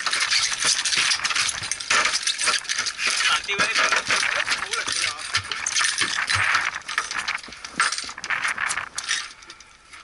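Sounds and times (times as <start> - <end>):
fish and lure clattering on deck: 0.0 - 10.0.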